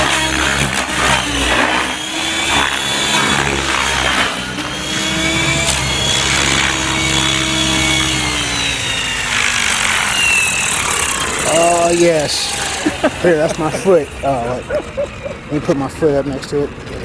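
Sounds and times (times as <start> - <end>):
model helicopter rotor whine: 0.0 - 17.0.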